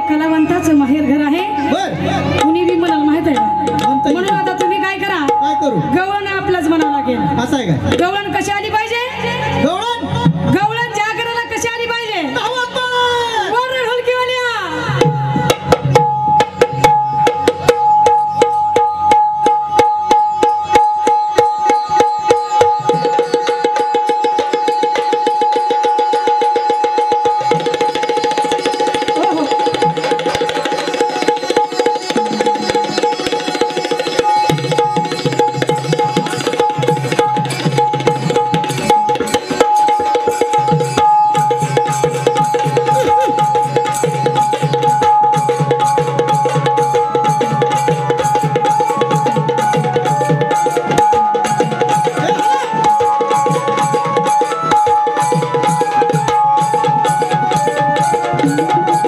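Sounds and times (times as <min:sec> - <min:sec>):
hand drums driving rhythm: 0:00.0 - 0:11.5, 0:14.7 - 0:59.0.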